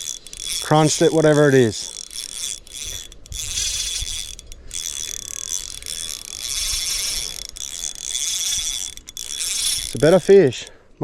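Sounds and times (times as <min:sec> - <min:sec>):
fishing reel ratcheting and whirring: 0:00.0 - 0:10.8.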